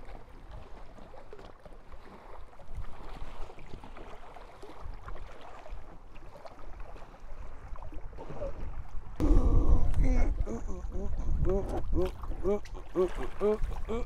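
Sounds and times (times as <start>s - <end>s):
paddle blades splashing: 0.0s - 9.2s, 10.1s - 14.0s
water lapping around raft: 0.0s - 14.0s.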